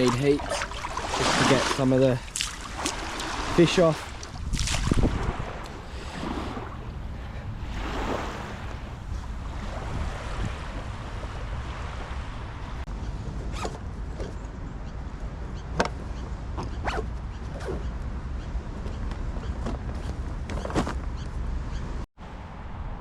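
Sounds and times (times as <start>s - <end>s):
wind rumble on microphone: 2.7s - 23.0s.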